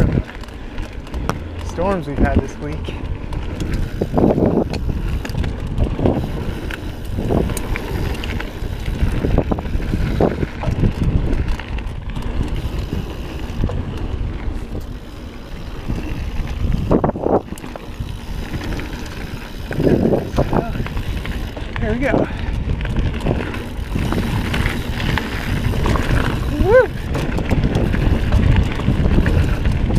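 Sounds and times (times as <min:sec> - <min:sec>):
bike clicks and rattles: 0:00.0 - 0:29.9
bike tyres rolling on dirt: 0:00.0 - 0:29.9
wind buffeting microphone: 0:00.0 - 0:29.9.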